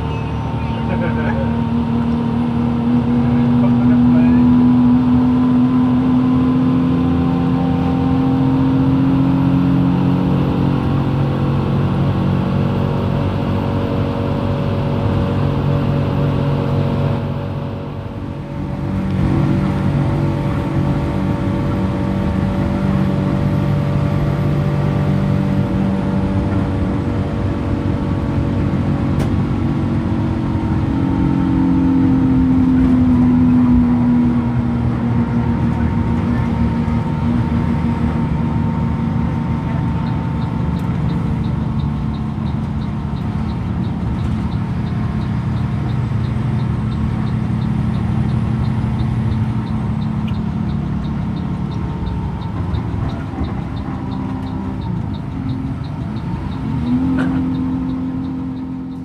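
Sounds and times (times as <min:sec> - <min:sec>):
diesel engine droning: 0:00.0 - 0:59.0
road noise: 0:00.0 - 0:59.0.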